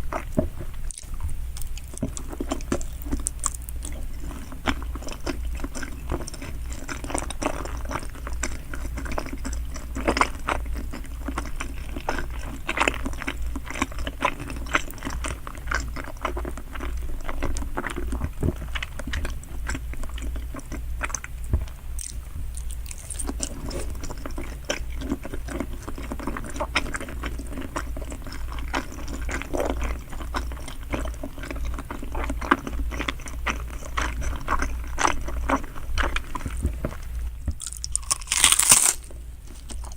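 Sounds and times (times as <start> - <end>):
wet chewing mouth clicks and smacks: 0.0 - 39.9.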